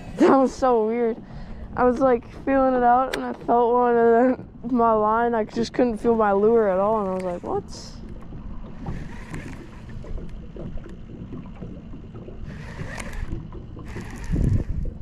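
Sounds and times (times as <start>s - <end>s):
water lapping against boat: 0.0s - 15.0s
wind buffeting microphone: 0.0s - 15.0s.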